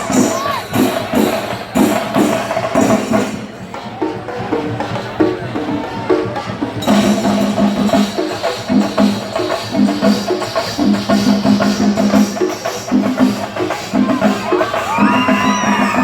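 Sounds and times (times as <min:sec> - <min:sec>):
festival drums and percussion: 0:00.0 - 0:16.0.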